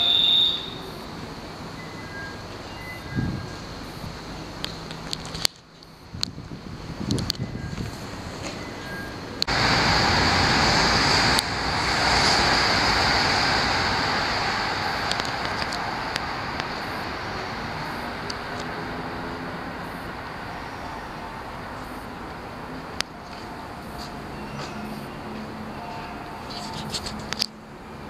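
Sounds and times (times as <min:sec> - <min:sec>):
train rushing past: 0:00.0 - 0:05.1, 0:06.5 - 0:28.0.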